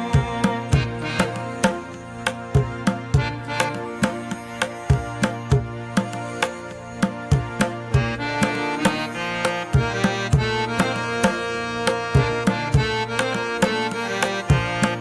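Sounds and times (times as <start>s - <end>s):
sustained melody: 0.0s - 15.0s
tabla strokes: 0.0s - 15.0s.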